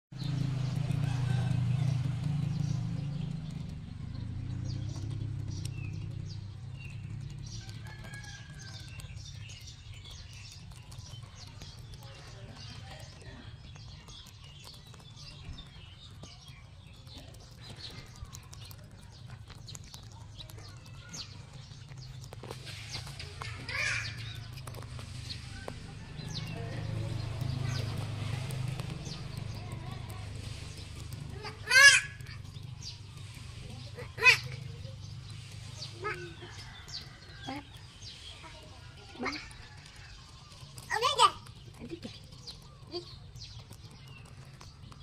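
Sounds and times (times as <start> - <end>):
bird chirps: 0.1 - 45.0
rabbits chewing and crunching: 0.1 - 45.0.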